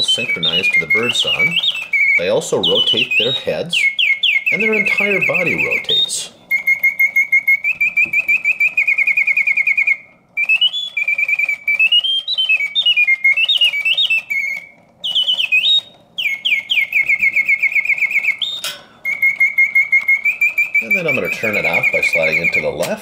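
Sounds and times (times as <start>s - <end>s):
clockwork mechanism clicking: 0.0s - 23.0s
mechanical bird song trills: 0.0s - 23.0s.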